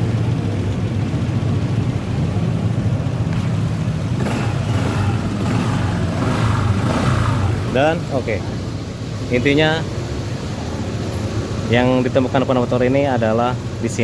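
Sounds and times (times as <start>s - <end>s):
scooter engine running: 0.0s - 14.0s.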